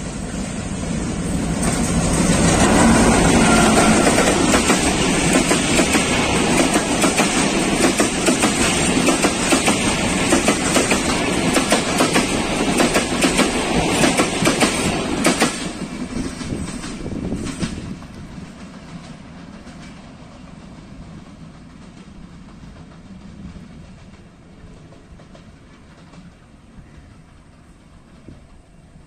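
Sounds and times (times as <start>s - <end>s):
train wheels clattering: 0.0s - 29.0s.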